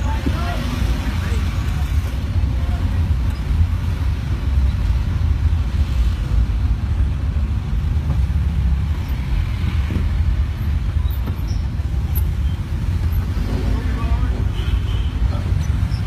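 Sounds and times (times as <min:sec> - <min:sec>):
car engine rumble: 0:00.0 - 0:16.0
road noise: 0:00.0 - 0:16.0.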